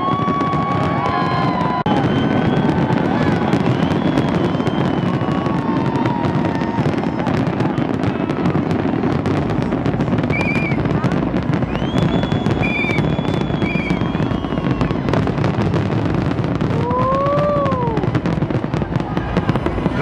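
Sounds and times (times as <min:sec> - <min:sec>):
fireworks crackling and banging: 0:00.0 - 0:20.0
fireworks whistling: 0:00.0 - 0:20.0.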